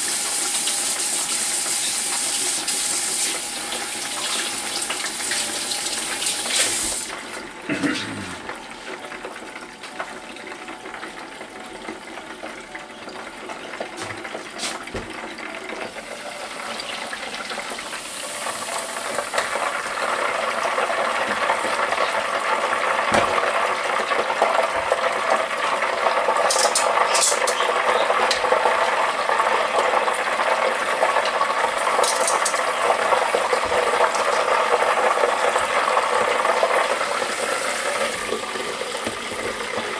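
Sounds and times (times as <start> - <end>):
deep-frying sizzling crackle: 0.0 - 7.6, 8.5 - 39.9.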